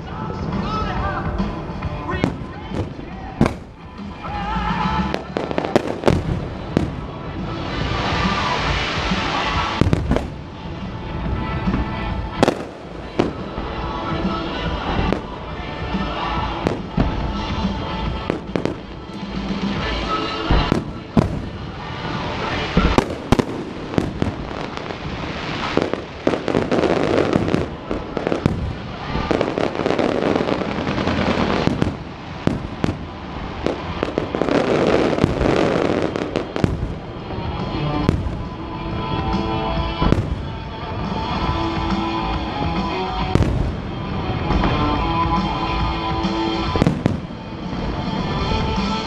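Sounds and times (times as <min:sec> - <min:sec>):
fireworks bangs and crackling: 0:00.0 - 0:49.0
music: 0:00.0 - 0:49.0.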